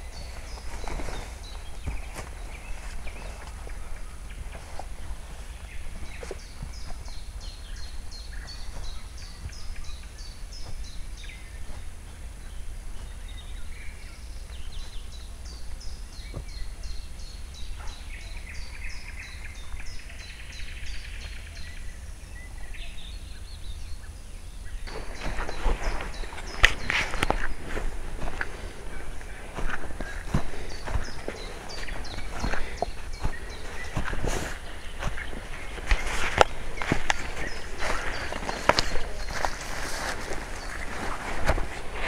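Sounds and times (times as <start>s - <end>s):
footsteps through grass: 0.0s - 21.9s, 24.8s - 42.0s.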